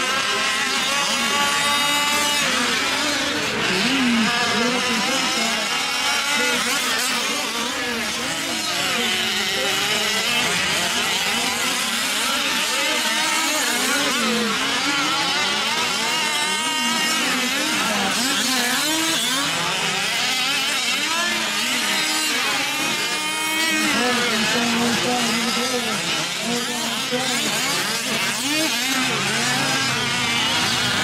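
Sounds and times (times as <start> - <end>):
small two-stroke engines revving: 0.0 - 31.0.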